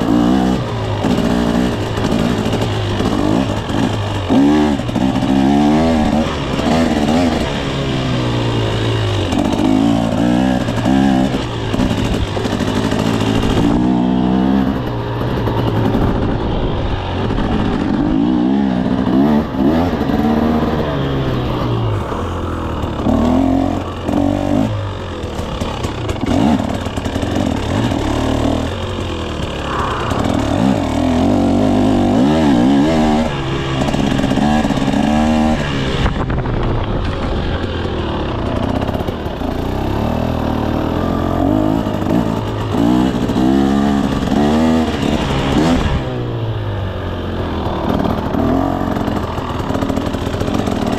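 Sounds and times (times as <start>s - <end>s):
dirt bike engine revving: 0.0s - 36.4s, 37.2s - 50.9s.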